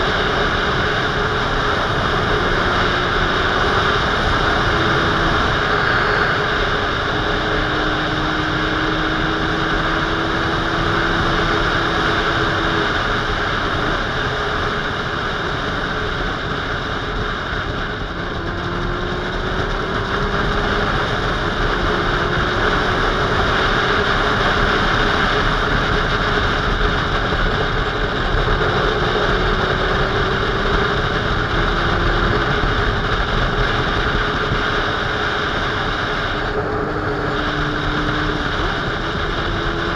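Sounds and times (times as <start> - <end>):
motorcycle engine drone: 0.0 - 39.9
wind rushing over camera: 0.0 - 39.9.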